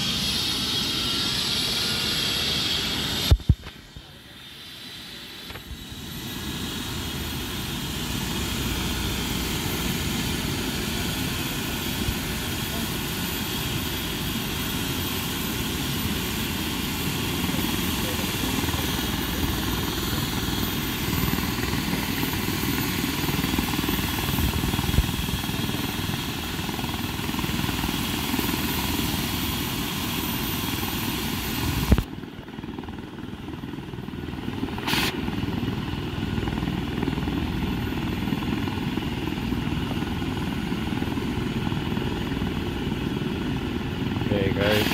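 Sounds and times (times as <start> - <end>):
helicopter rotor and engine noise: 0.0 - 44.9
helicopter turbine whine: 0.0 - 44.9.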